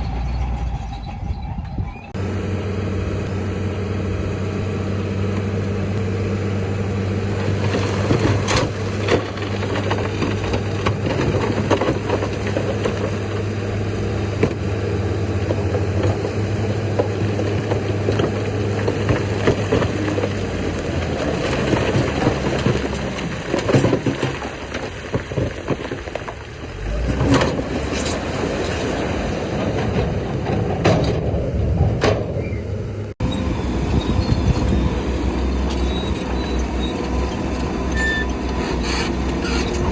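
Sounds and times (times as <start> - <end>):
diesel engine drone: 0.0 - 39.9
metallic clanking and scraping: 3.1 - 26.4, 27.0 - 32.6, 33.2 - 39.9.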